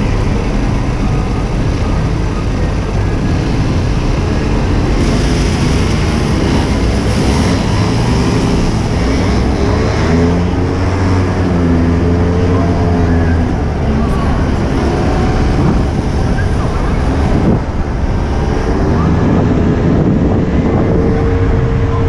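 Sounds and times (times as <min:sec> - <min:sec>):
go-kart engine revving: 0:00.0 - 0:22.0.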